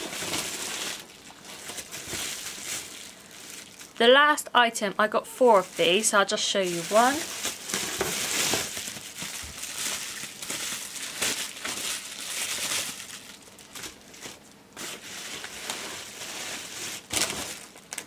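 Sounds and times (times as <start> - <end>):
bubble wrap crinkling: 0.0 - 4.1, 5.3 - 18.0.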